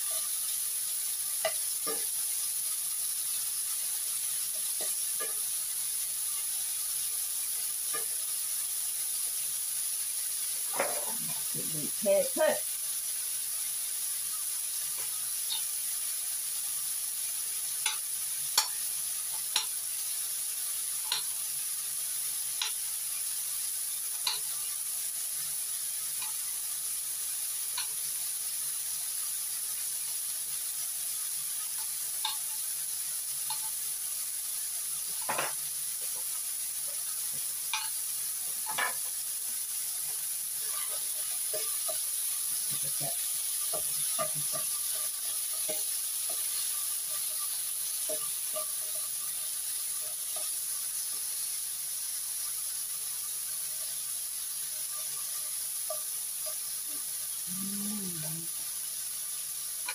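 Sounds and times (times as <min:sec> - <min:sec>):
food stirred in a pan: 0:00.0 - 0:57.5, 0:58.5 - 0:59.9
meat sizzling in a pan: 0:00.0 - 0:59.9.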